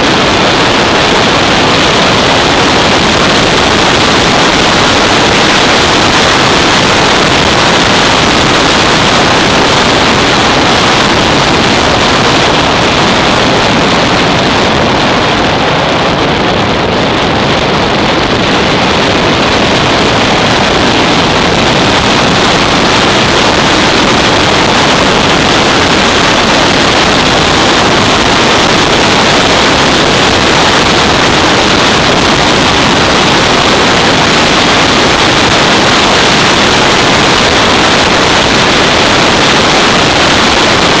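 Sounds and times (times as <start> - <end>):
wind rush over microphone: 0.0 - 41.0.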